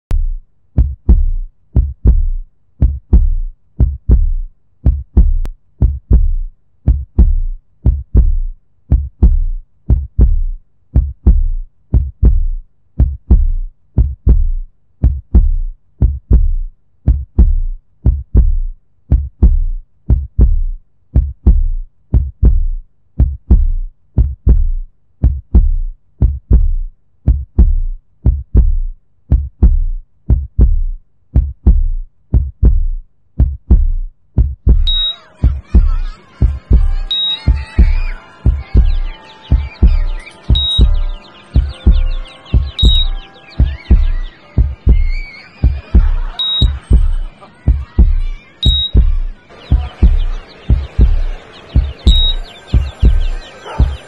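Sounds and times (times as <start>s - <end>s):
amplified heartbeat thumps: 0.1s - 54.0s.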